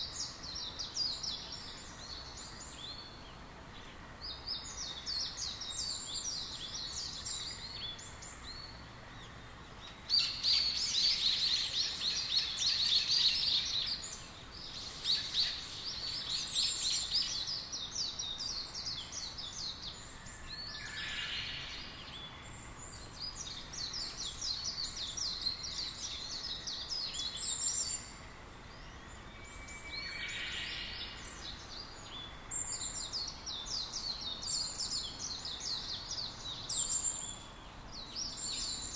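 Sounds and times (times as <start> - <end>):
faint background hiss: 0.0 - 38.9
small birds chirping: 0.0 - 38.9.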